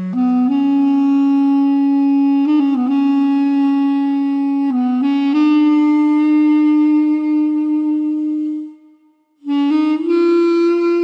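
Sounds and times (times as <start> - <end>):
solo wind instrument melody: 0.0 - 11.0.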